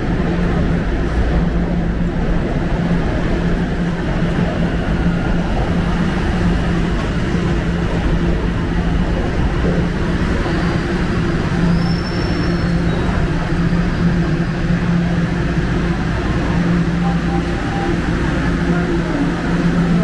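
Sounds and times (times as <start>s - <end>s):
train standing at platform humming: 0.0s - 20.0s.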